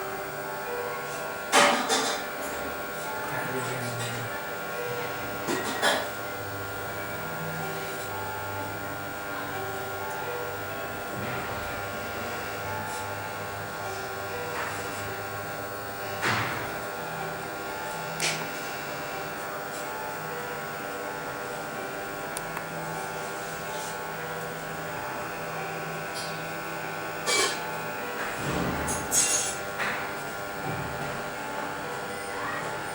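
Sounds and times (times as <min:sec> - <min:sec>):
electric motor hum: 0:00.0 - 0:32.9.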